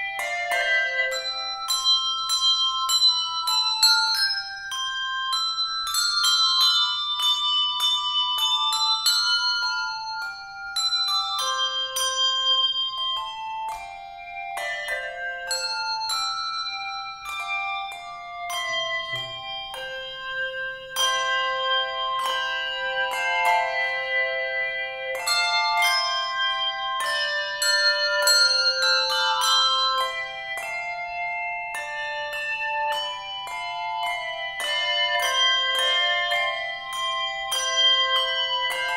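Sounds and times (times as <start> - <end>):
handbell choir ringing: 0.0 - 38.9.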